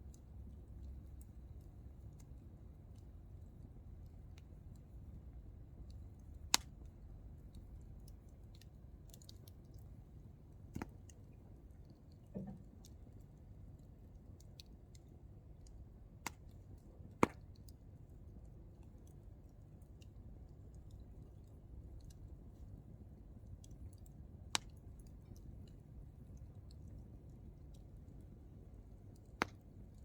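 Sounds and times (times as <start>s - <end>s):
campfire burning and crackling: 0.0s - 30.0s.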